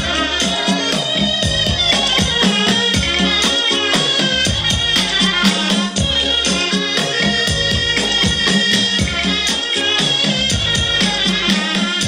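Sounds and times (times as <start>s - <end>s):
quick steady drumbeat: 0.0s - 12.0s.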